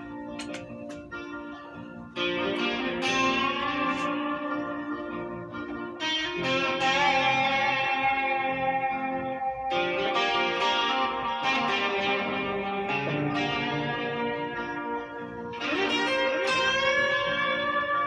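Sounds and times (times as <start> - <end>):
guitar ringing chords: 0.0 - 18.0.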